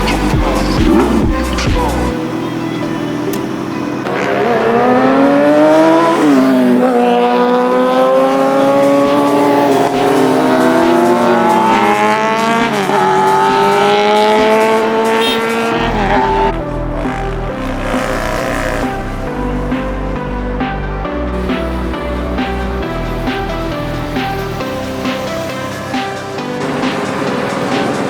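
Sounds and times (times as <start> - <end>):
background music: 0.0 - 28.0
motorcycle engine accelerating: 0.0 - 28.0.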